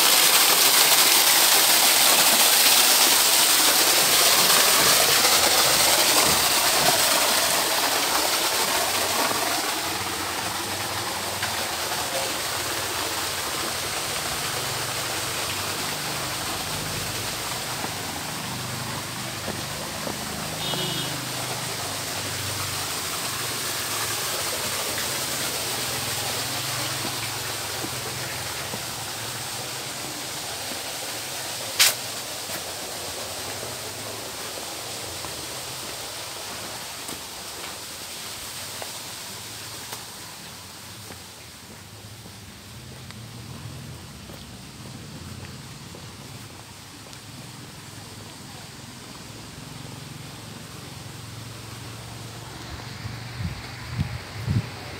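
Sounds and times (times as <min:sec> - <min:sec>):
running water rushing: 0:00.0 - 0:54.9.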